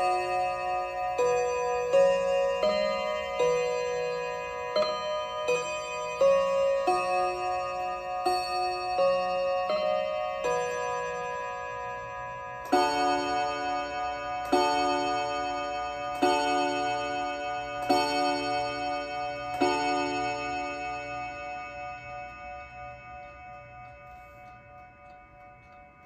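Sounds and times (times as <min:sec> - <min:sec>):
mantel clock striking: 0:00.0 - 0:26.0.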